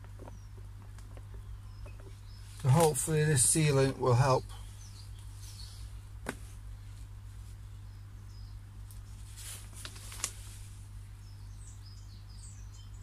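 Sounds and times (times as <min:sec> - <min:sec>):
faint birds chirping: 0:00.0 - 0:13.0
steady low hum: 0:00.0 - 0:13.0.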